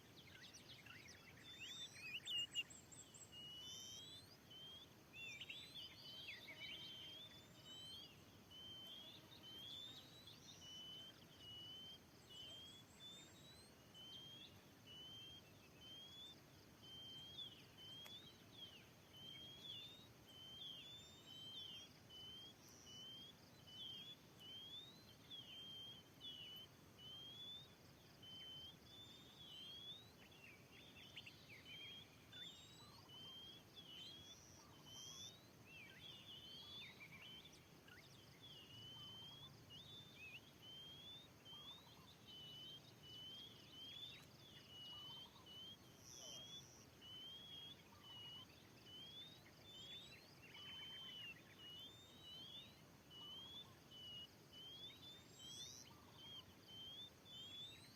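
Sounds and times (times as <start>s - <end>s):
bird calling with whistled notes: 0.0s - 57.9s.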